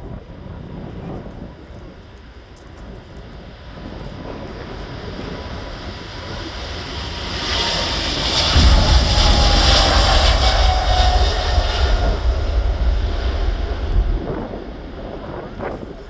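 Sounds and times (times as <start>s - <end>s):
jet engines roaring past: 0.0s - 16.0s.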